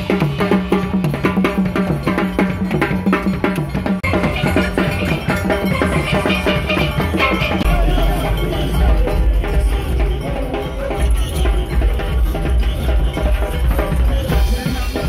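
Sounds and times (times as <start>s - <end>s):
drum kit: 0.0s - 15.0s
steel band playing: 0.0s - 15.0s.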